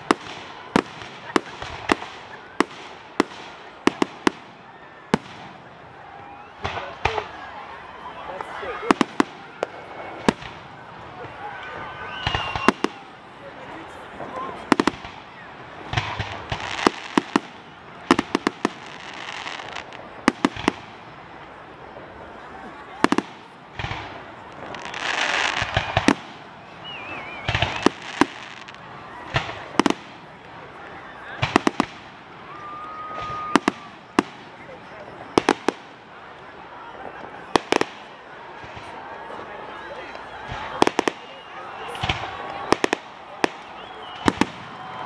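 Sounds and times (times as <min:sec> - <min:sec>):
fireworks bursting bangs: 0:00.0 - 0:45.0.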